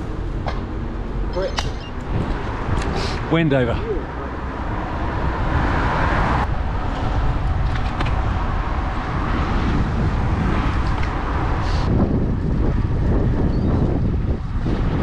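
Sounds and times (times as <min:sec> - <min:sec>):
road noise: 0:00.0 - 0:15.0
wind on microphone: 0:01.6 - 0:15.0.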